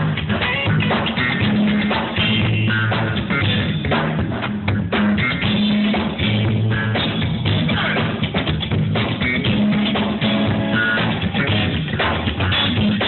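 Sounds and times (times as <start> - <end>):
drum kit beating: 0.0 - 13.0
live band playing: 0.0 - 13.0.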